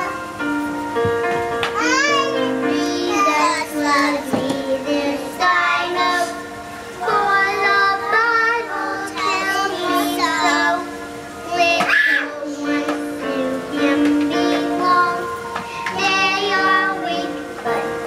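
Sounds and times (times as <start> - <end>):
music with long held notes: 0.0 - 18.0
girls singing: 2.2 - 18.0.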